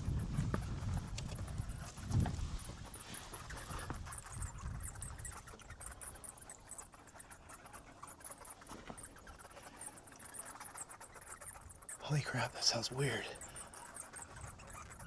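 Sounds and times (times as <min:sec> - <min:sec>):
bats squeaking and chittering: 0:00.0 - 0:15.0.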